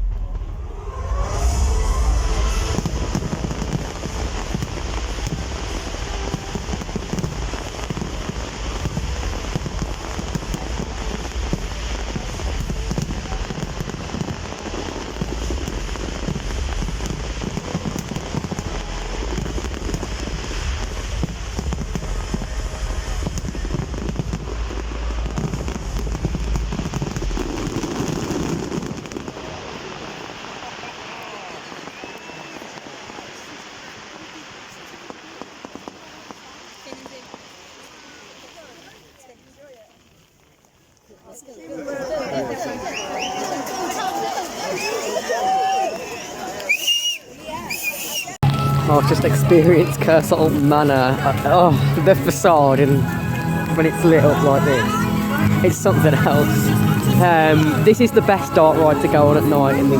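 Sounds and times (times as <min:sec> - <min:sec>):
fireworks booms: 0:00.0 - 0:41.1, 0:47.7 - 0:59.9
fireworks crackling: 0:00.0 - 0:59.9.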